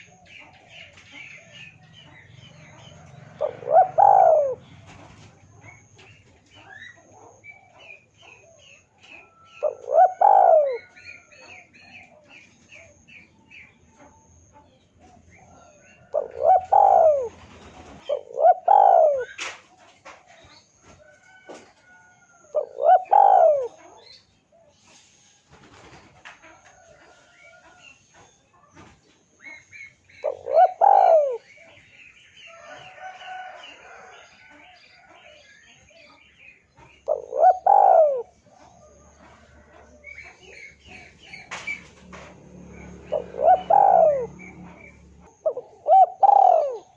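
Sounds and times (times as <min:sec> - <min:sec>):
dove cooing: 0:00.0 - 0:20.6, 0:21.3 - 0:24.8, 0:29.4 - 0:36.1, 0:36.8 - 0:46.9
small birds chirping faintly: 0:00.0 - 0:46.9.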